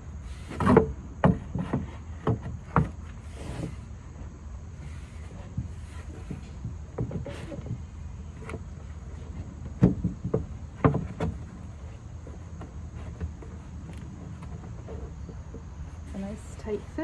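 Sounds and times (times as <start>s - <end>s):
bumps and knocks of handled parts: 0.4s - 17.0s.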